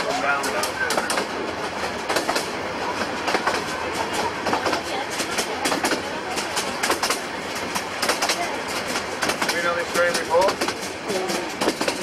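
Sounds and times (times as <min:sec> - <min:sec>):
rumble of moving train: 0:00.0 - 0:12.0
wheels clicking over rail joints: 0:00.0 - 0:12.0.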